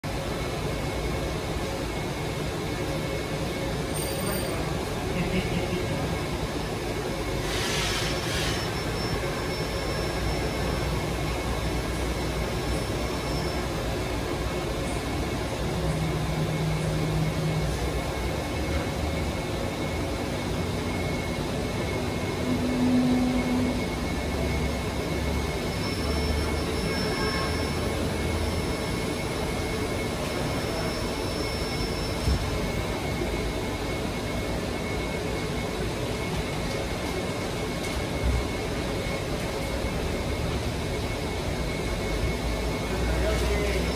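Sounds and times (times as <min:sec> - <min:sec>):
machine mechanical hum: 0:00.0 - 0:43.9
low motor whine: 0:08.1 - 0:43.9.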